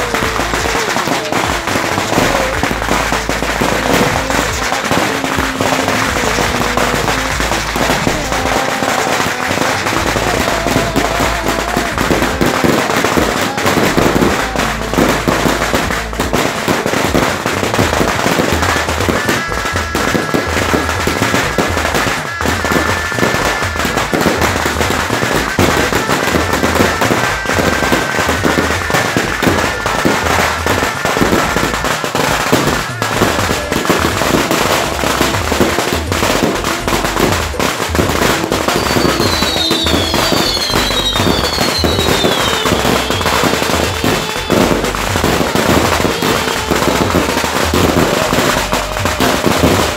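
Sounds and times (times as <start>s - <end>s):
falling firework whistles: 0.0s - 49.9s
fireworks crackling and popping: 0.0s - 49.9s.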